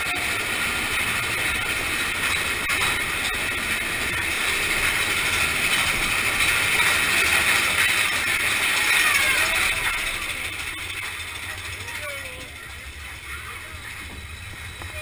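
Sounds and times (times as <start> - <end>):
roller coaster rattling on track: 0.0 - 15.0.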